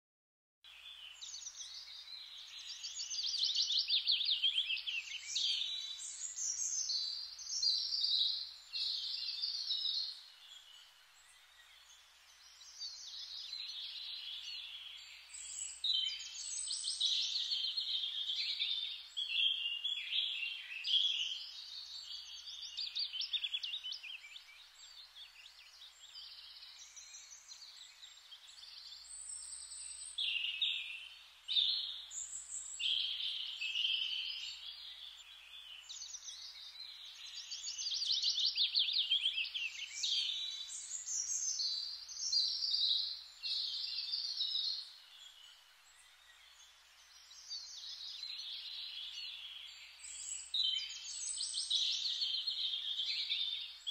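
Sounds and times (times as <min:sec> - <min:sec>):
small birds chirping: 0:00.6 - 0:53.9.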